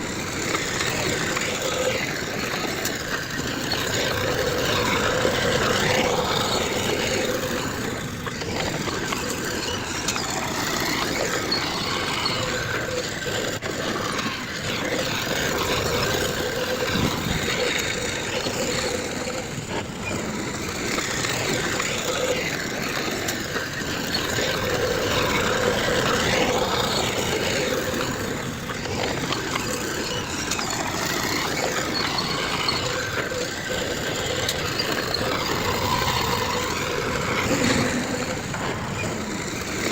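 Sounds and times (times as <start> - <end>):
heavy machinery engines running: 0.0 - 39.9.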